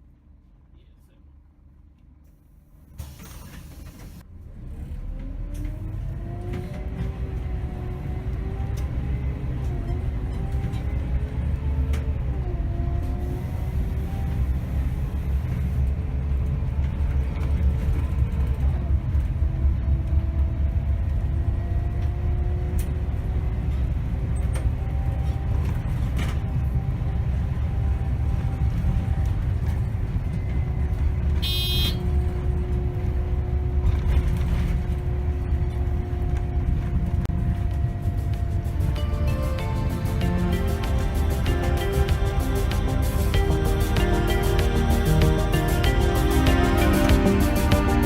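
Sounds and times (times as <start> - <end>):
bus engine and road rumble: 0.0 - 48.0
drivetrain whine: 1.4 - 48.0.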